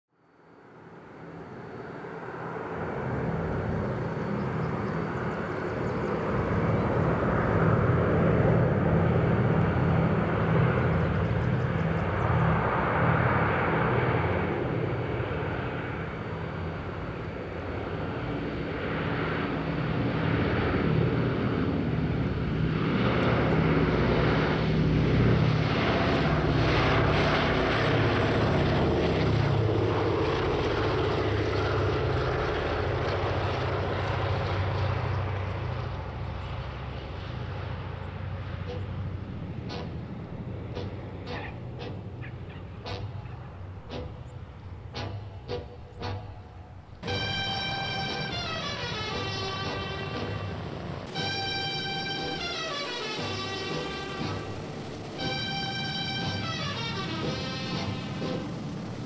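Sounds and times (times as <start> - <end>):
propeller plane engines running: 0.2 - 59.0.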